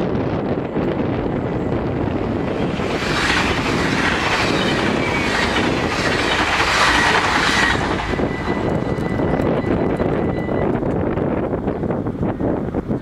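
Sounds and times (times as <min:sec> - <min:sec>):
train wheels rushing on rails: 0:00.0 - 0:13.0
level crossing warning bells: 0:00.2 - 0:11.8.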